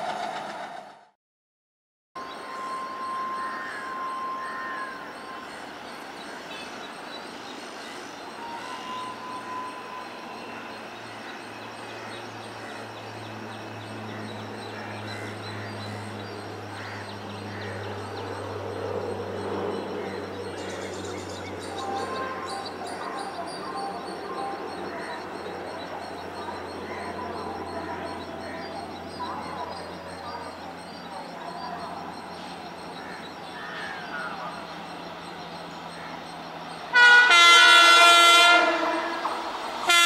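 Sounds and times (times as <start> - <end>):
distant train rumble: 0.0 - 1.1, 2.2 - 40.0.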